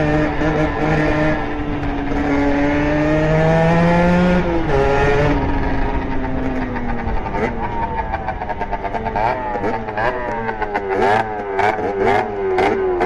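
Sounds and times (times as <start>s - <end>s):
two-stroke engine revving: 0.0s - 13.0s.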